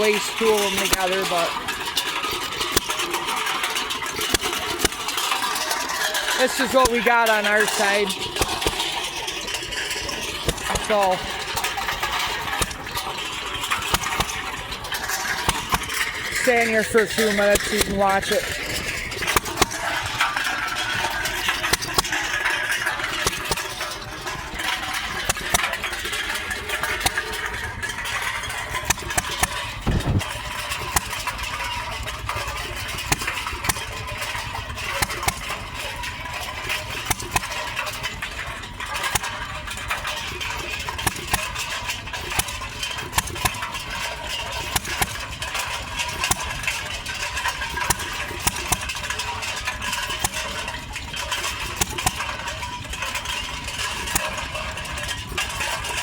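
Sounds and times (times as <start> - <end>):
cans clattering in mixer drum: 0.0 - 56.0
hit-and-miss engine running: 0.0 - 56.0.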